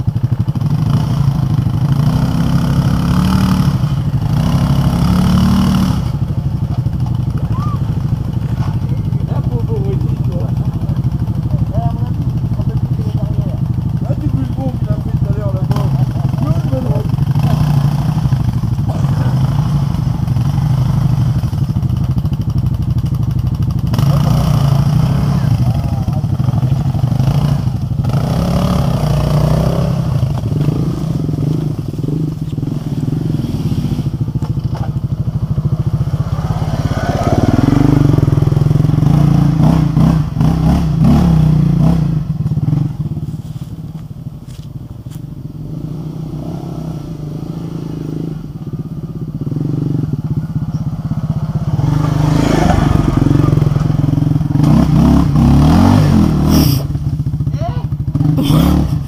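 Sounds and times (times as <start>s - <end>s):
quad bike engine under load: 0.0s - 59.0s.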